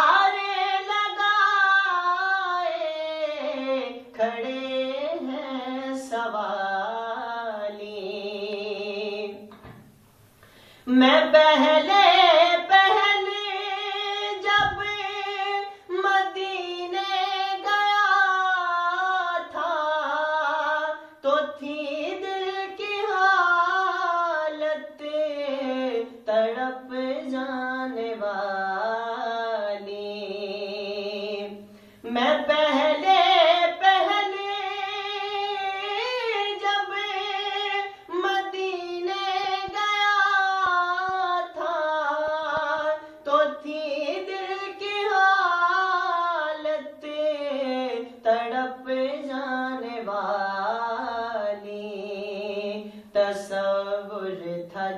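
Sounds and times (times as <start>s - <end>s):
man singing unaccompanied: 0.0s - 9.8s, 10.9s - 54.9s.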